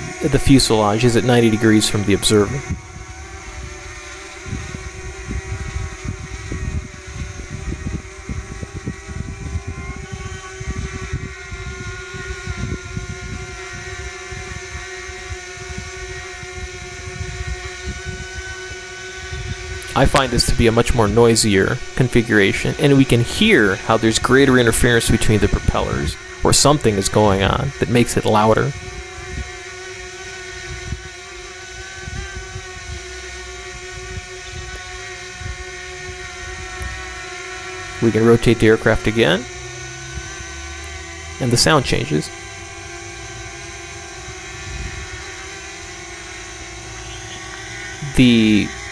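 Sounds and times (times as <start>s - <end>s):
wind rumble on microphone: 0.0s - 40.6s, 41.4s - 48.9s
drone propellers screeching: 0.0s - 48.9s.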